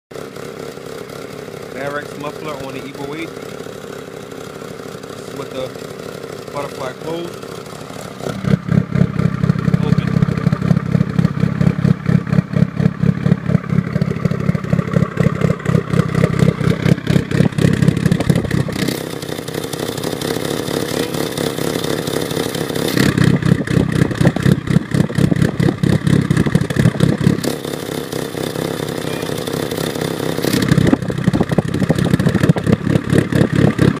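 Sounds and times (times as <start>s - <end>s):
car engine choppy idle: 0.1s - 34.0s.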